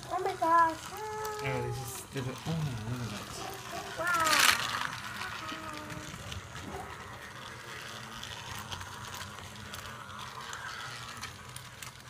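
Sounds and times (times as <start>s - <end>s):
small electric motor humming: 0.0s - 12.0s
toy train wheels clicking: 0.0s - 12.0s.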